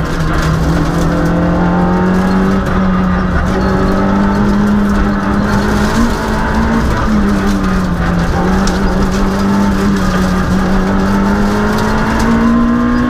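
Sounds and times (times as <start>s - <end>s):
rally car engine at high revs: 0.0s - 13.0s.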